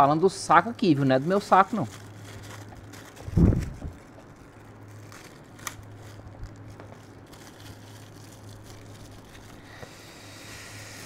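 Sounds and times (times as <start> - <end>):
low electrical hum: 0.0 - 11.0
plastic bag crinkling: 0.2 - 9.8.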